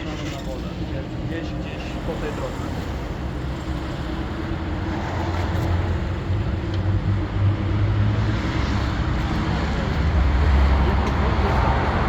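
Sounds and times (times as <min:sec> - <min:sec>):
vehicle engine drone: 0:00.6 - 0:12.0.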